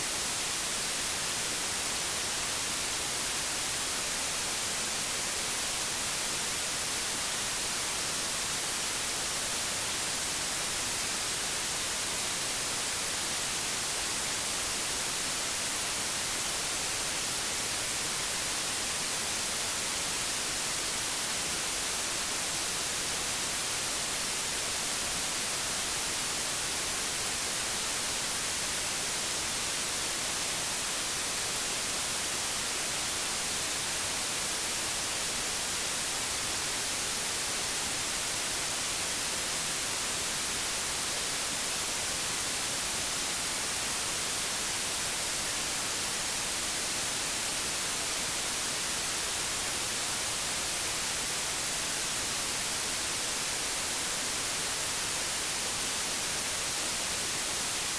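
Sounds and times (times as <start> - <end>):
television static hiss: 0.0 - 57.9.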